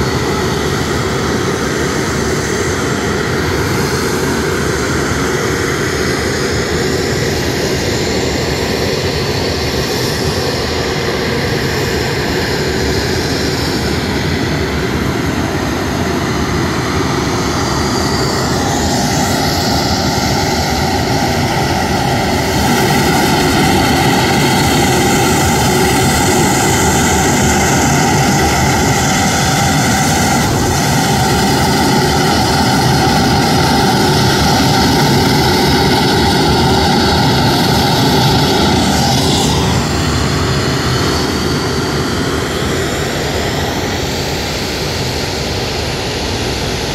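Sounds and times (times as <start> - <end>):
jet engine whine: 0.0 - 46.9.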